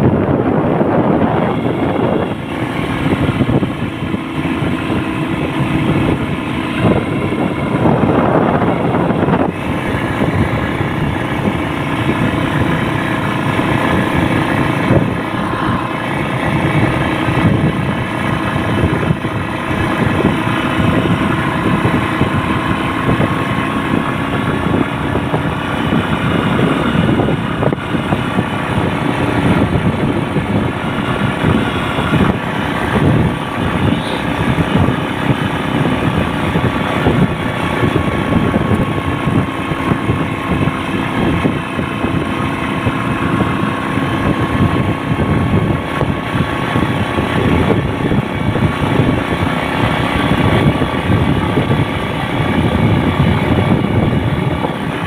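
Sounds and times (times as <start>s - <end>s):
motor vehicle running: 0.0s - 55.0s
wind buffeting microphone: 0.0s - 55.0s.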